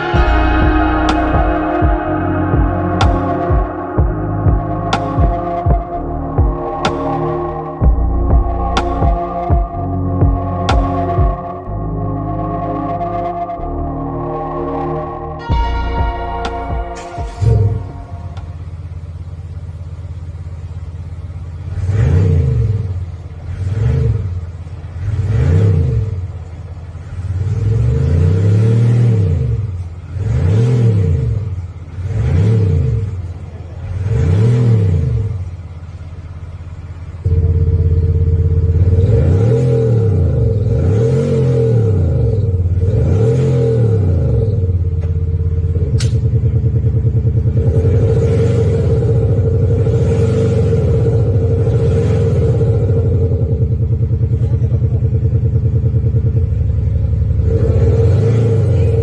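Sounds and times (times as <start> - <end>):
diesel engine revving in blips: 0.0 - 59.0.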